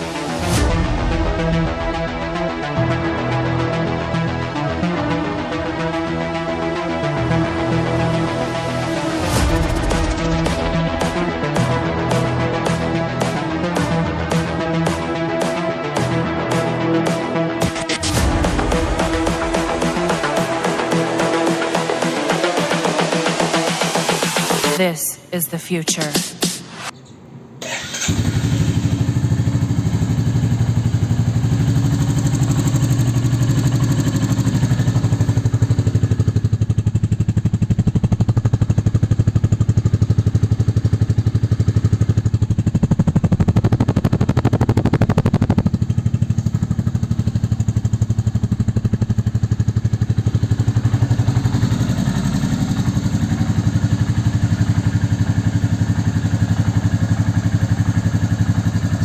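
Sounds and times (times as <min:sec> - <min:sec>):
motorcycle engine idling and revving: 0:00.0 - 0:24.8, 0:26.7 - 0:59.0.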